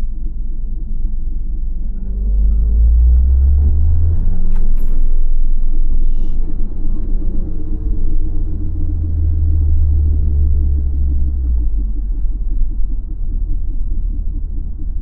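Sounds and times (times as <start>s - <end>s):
car drivetrain and tyre rumble: 0.0s - 15.0s.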